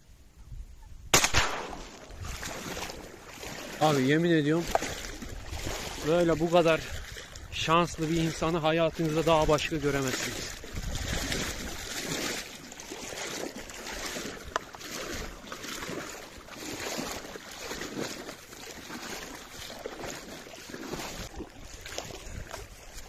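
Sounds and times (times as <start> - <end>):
paddle swishing water: 1.4 - 23.0.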